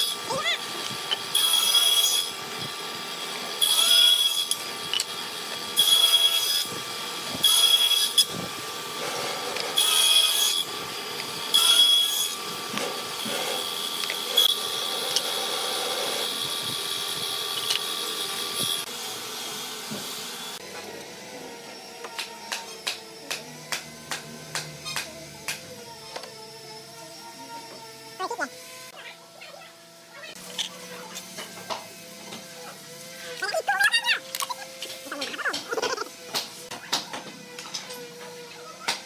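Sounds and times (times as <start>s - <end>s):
table saw cutting wood: 0.0s - 39.0s.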